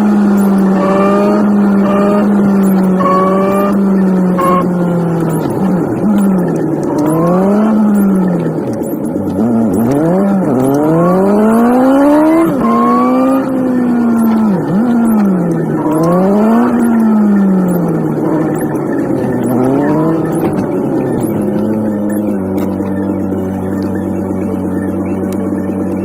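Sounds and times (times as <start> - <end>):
car engine accelerating and shifting: 0.0 - 26.0.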